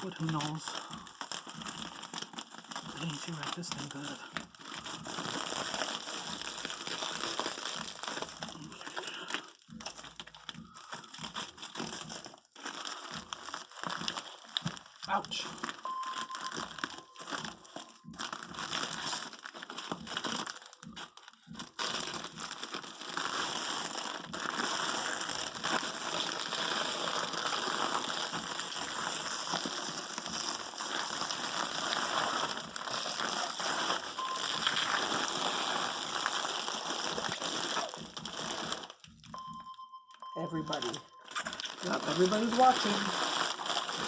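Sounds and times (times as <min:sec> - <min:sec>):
packaging crinkling: 0:00.0 - 0:44.0.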